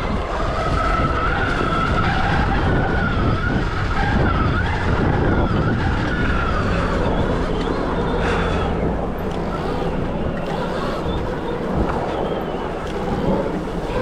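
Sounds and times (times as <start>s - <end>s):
electric motorbike motor whine: 0.0s - 14.0s
low riding rumble: 0.0s - 14.0s.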